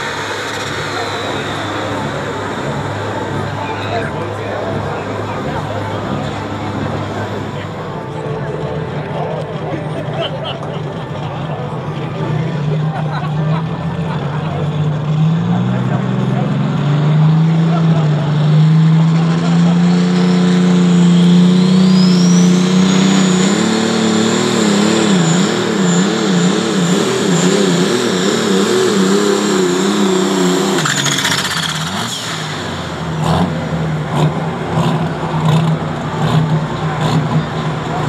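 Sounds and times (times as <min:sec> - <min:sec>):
engine clatter: 0:00.0 - 0:38.0
tractor diesel engine under load: 0:00.0 - 0:38.0.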